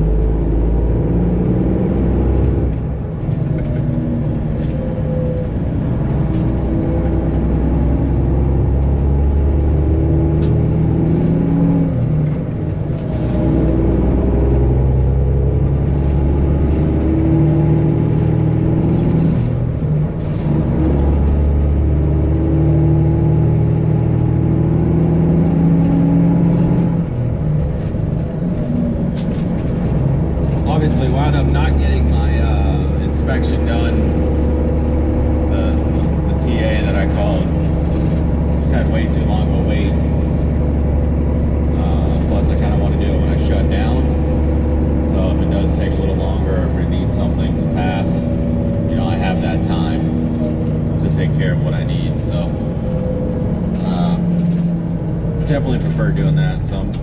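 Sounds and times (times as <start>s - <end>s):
semi truck engine pulling through gears: 0.0s - 57.0s.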